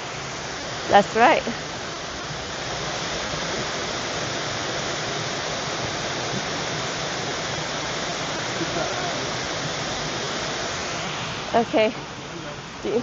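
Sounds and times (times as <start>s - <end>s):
steady hiss of water: 0.0s - 13.0s.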